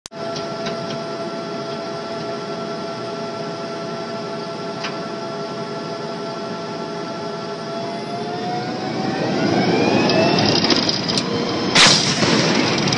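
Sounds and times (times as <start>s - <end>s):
turbine engine idling whine: 0.1s - 12.9s.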